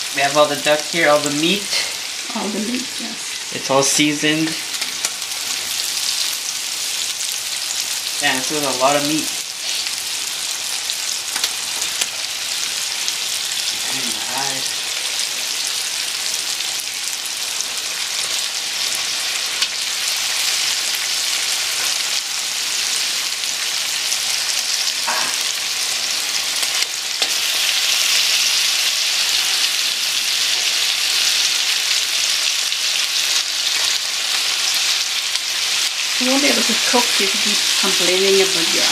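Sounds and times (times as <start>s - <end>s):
meat sizzling in hot oil: 0.0s - 38.9s.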